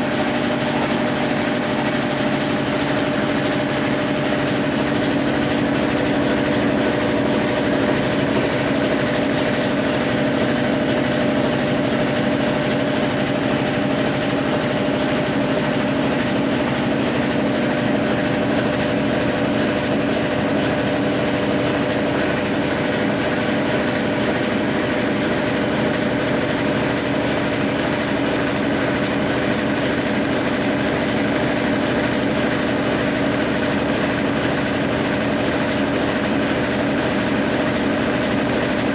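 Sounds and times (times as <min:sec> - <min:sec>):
washing machine motor humming: 0:00.0 - 0:38.9.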